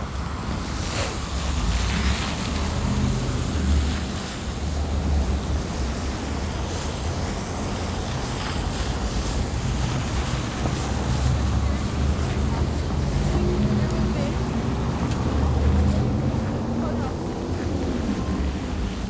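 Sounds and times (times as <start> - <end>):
low engine rumble: 0.0 - 19.0
street traffic: 0.0 - 19.0
wind buffeting microphone: 0.0 - 19.0.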